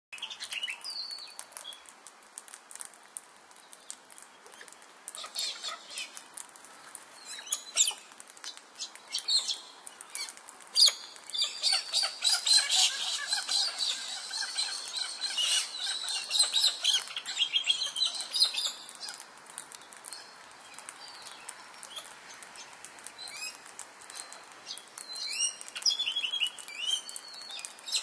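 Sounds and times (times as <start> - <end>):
wild birds chirping: 3.6 - 28.0.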